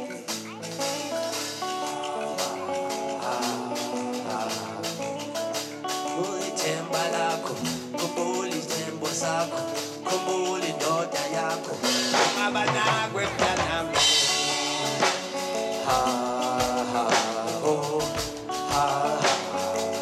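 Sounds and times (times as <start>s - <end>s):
live band playing: 0.0s - 20.0s
sung vocals: 0.0s - 20.0s.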